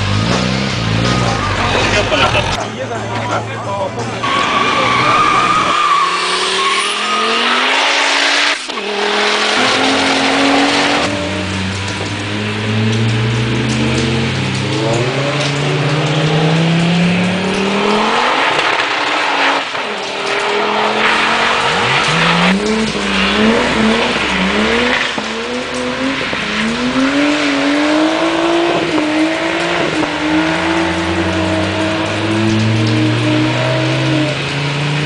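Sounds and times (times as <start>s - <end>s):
car engine revving: 0.0s - 2.6s, 4.0s - 35.0s.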